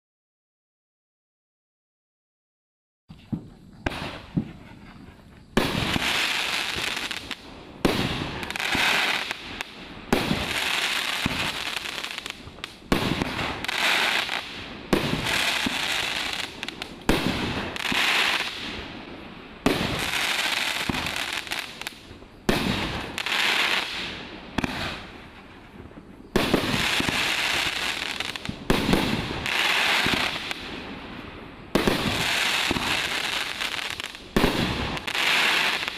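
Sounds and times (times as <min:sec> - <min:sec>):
fireworks hissing crackle: 0:03.1 - 0:35.9
fireworks shots: 0:03.1 - 0:35.9.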